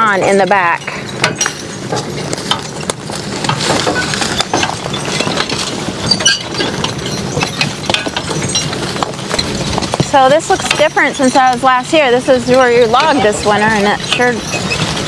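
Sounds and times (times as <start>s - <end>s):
horse-drawn cart rattling: 0.0s - 15.0s
load knocking and clinking: 0.0s - 15.0s.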